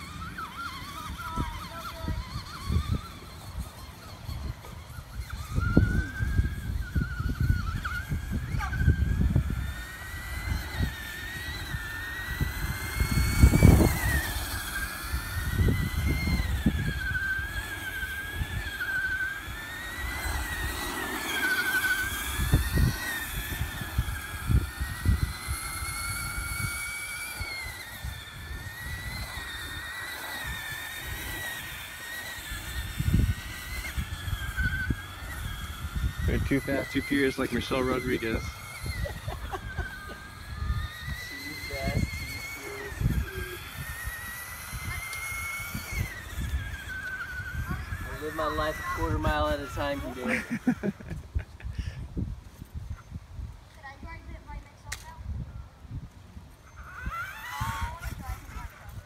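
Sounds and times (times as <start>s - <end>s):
electric toy truck motor whine: 0.0s - 59.0s.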